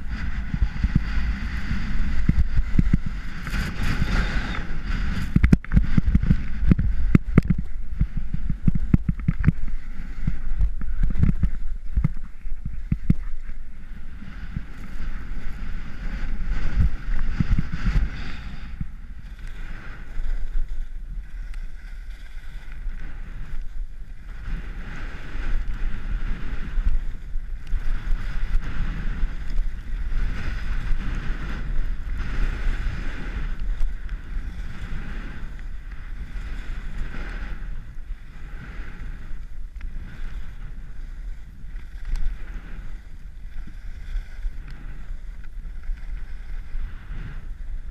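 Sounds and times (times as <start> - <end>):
skis scraping over snow: 0.0 - 47.9
wind rumble on microphone: 0.0 - 47.9.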